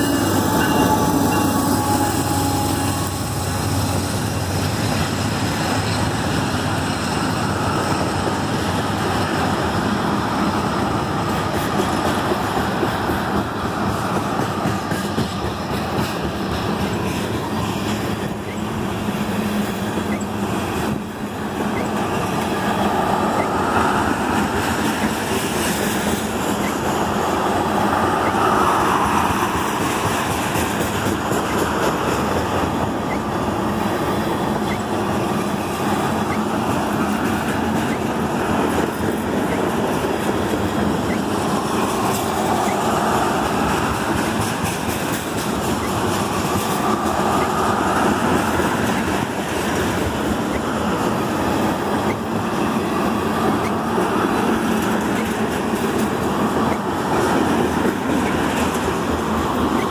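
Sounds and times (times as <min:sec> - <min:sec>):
train wheels on track: 0:00.0 - 0:59.9.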